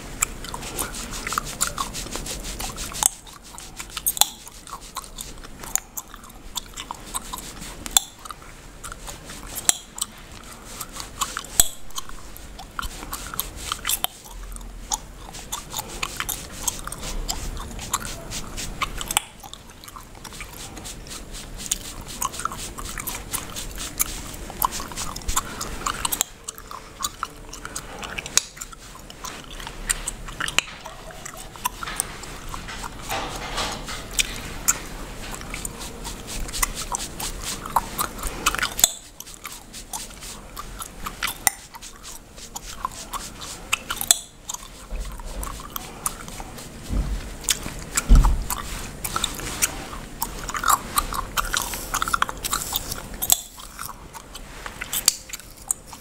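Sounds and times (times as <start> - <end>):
bubblegum chewing and snapping: 0.0 - 56.0.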